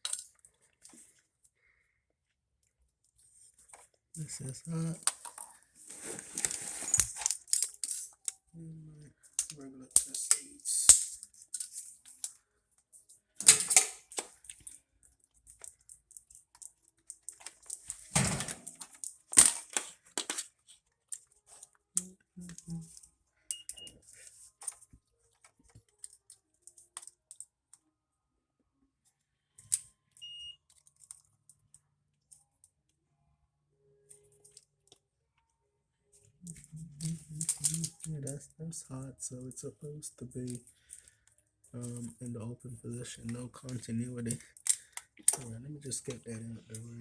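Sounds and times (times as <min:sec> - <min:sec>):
clicks and clatters of handled parts: 0:00.0 - 0:01.6, 0:02.6 - 0:08.5, 0:09.1 - 0:27.8, 0:29.6 - 0:32.8, 0:34.1 - 0:35.1, 0:36.1 - 0:38.6, 0:39.3 - 0:47.0.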